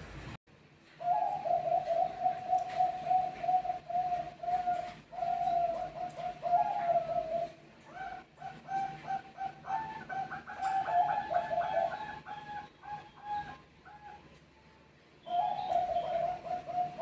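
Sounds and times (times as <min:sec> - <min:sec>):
dove cooing: 0:01.0 - 0:14.3, 0:15.2 - 0:17.0.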